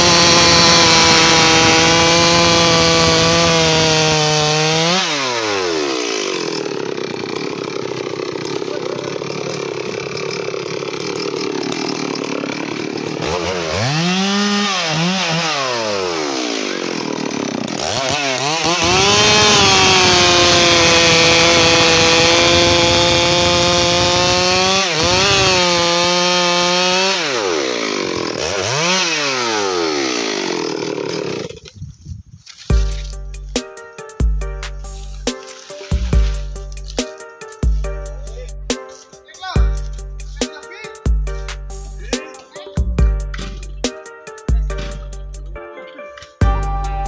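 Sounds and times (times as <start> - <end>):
chainsaw cutting log: 0.0 - 31.8, 32.5 - 33.8, 34.6 - 38.0, 38.6 - 45.2.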